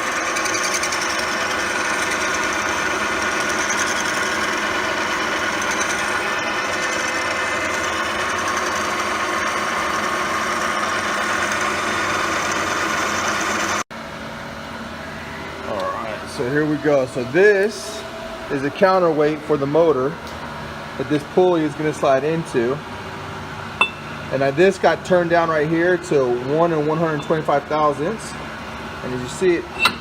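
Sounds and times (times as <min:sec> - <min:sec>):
metal lathe whine: 0:00.0 - 0:13.8, 0:14.4 - 0:22.9, 0:23.6 - 0:30.0.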